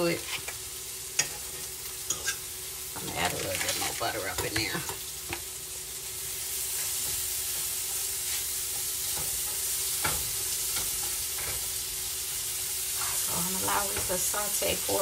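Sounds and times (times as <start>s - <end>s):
vegetables sizzling in skillet: 0.0s - 15.0s.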